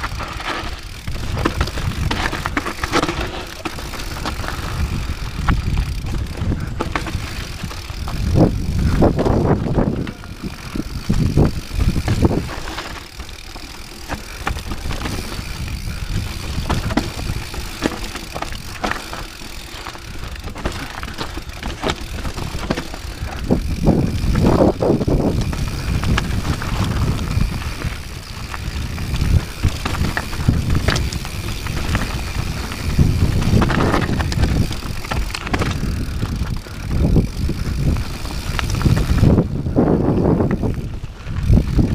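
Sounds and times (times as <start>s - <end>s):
bike tyres crunching over stones: 0.0s - 41.9s.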